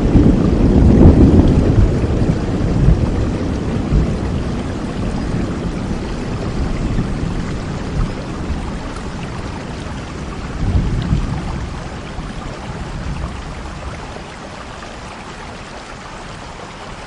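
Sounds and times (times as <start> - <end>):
thunder rumble: 0.0 - 15.1
steady rain: 0.0 - 17.0.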